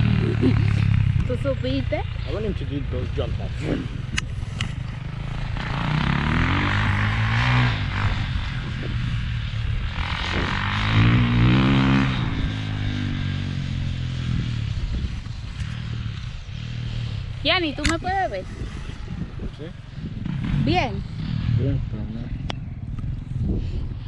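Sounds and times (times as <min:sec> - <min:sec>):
dirt bike engine revving: 0:00.0 - 0:23.7.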